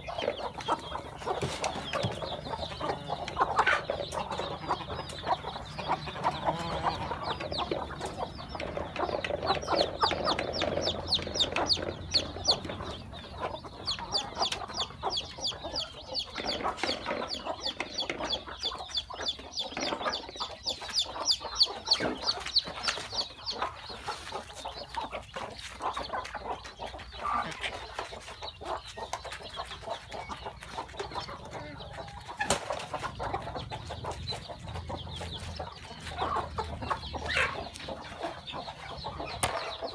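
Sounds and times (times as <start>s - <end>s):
chickens clucking: 0.0s - 39.9s
chicks peeping: 0.0s - 39.9s.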